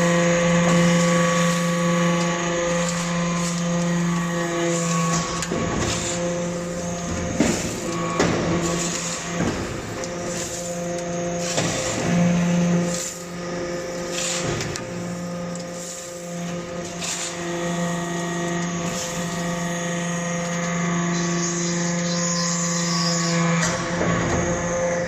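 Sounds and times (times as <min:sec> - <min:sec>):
hydraulic pump hum: 0:00.0 - 0:25.0.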